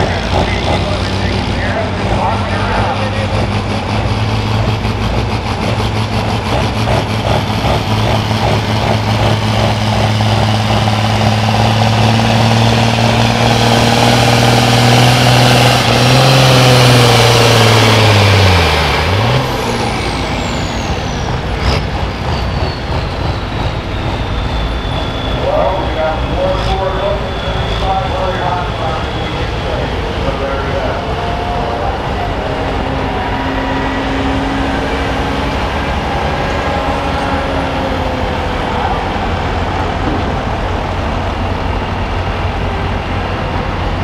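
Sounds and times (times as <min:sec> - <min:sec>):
high whine: 0:00.0 - 0:44.0
tractor diesel engine under load: 0:00.0 - 0:44.0.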